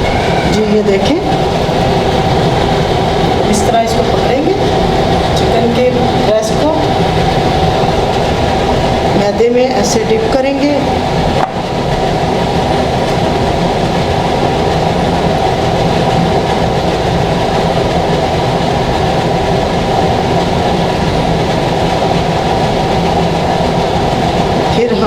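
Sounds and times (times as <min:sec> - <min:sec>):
machine drone with low hum: 0:00.0 - 0:25.0.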